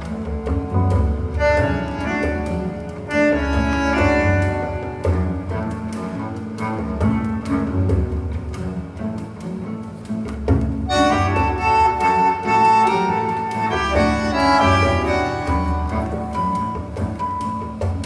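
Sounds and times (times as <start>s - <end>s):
bowed strings music: 0.0s - 18.0s.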